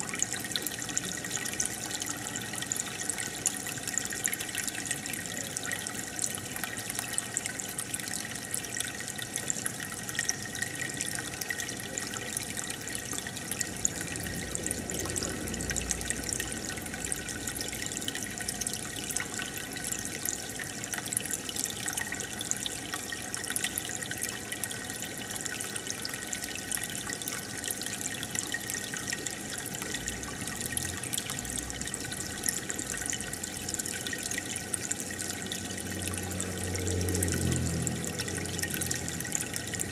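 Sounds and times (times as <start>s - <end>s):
aquarium water trickling and bubbling: 0.0s - 39.9s
small drips and splashes: 0.0s - 39.9s.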